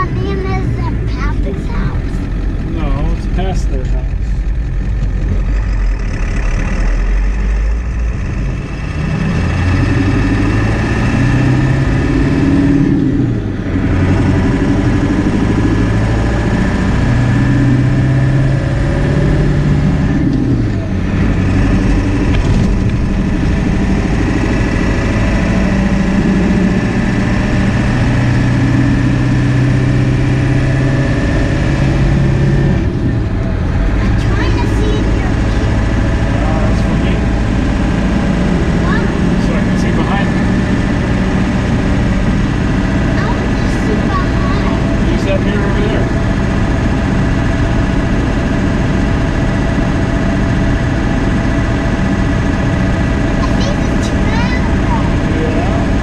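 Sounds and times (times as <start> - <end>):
pickup truck engine accelerating: 0.0 - 56.0.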